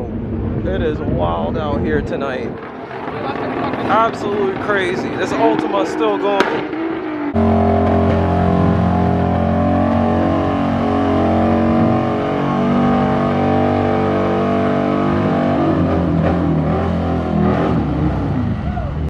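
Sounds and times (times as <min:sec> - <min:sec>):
car engine revving high: 0:03.0 - 0:19.0.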